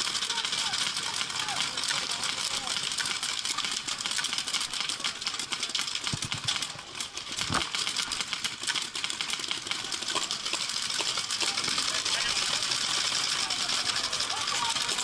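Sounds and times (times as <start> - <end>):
paintball markers firing: 0.0 - 13.9.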